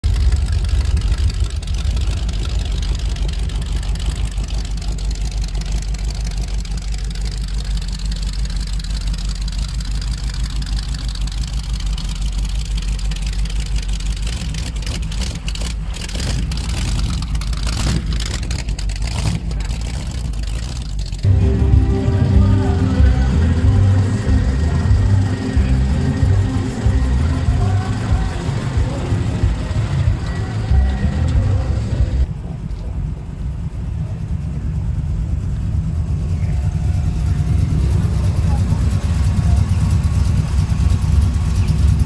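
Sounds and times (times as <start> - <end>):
hot rod engine rumbling: 0.0 - 42.0.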